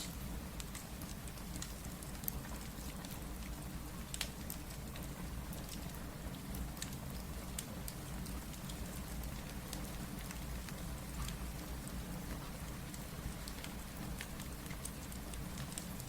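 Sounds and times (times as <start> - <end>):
fireplace crackling: 0.0 - 16.0
steady rain hissing: 0.0 - 16.0.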